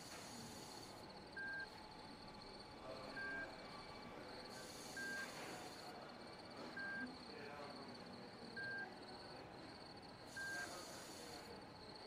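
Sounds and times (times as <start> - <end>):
patient monitor beeping softly: 0.0 - 11.6.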